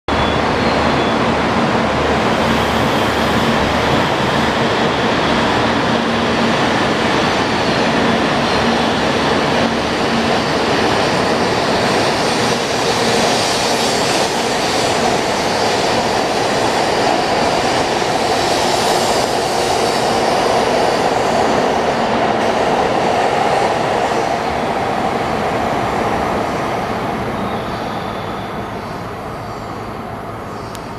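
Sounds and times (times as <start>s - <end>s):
train wheel and running noise: 0.1s - 30.9s.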